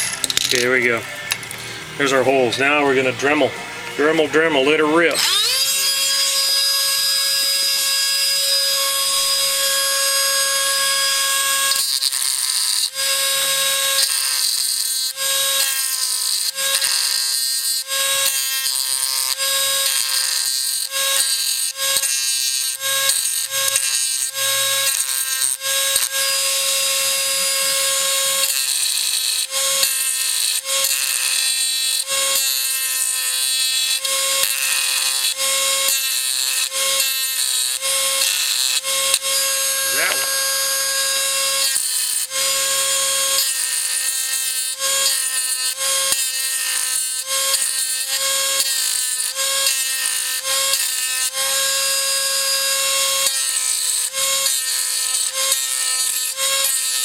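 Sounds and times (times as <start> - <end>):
rotary tool whining: 0.0 - 57.0.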